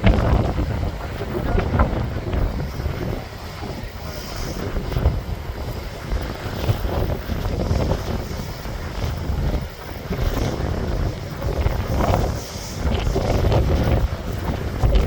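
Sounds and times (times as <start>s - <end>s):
ocean waves breaking: 0.0s - 15.0s
wind buffeting microphone: 0.0s - 15.0s.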